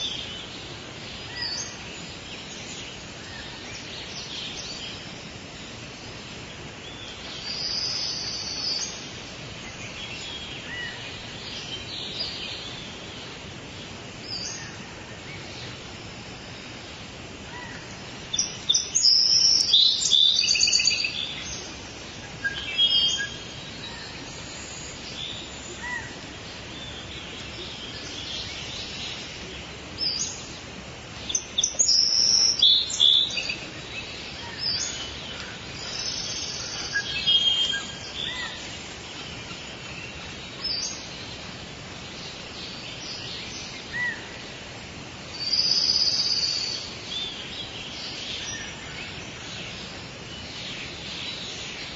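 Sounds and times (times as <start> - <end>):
birds chirping and trilling: 0.0 - 51.9
forest ambience hiss: 0.0 - 51.9.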